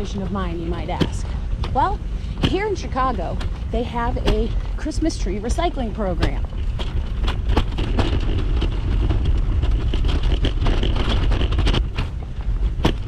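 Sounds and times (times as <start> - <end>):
sharp crunches and knocks: 0.0 - 13.0
wind buffeting microphone: 0.0 - 13.0.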